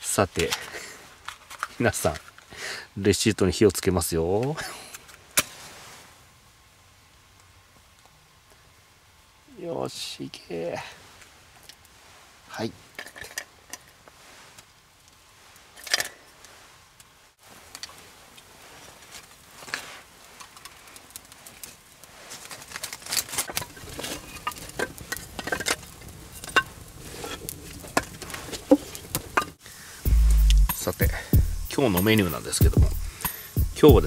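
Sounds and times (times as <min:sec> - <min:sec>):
kindling fire crackling and popping: 0:00.0 - 0:34.0.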